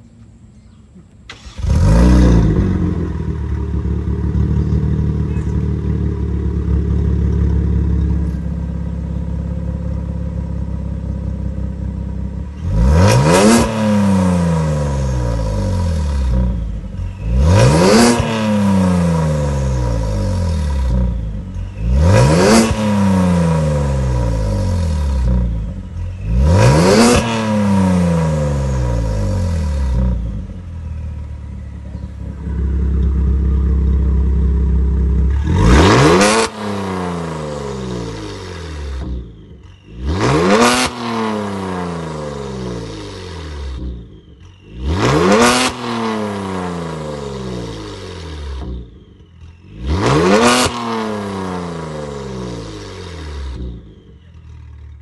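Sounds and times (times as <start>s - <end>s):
car engine starting and idling: 0.0s - 55.0s
engine throttle blips: 0.2s - 55.0s.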